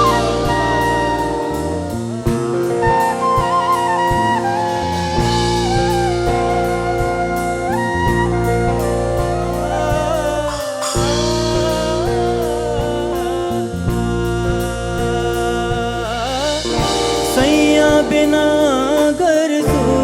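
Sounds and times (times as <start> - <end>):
drum beat: 0.0 - 20.0
sliding lead melody: 0.0 - 20.0
sustained bass notes: 0.0 - 20.0.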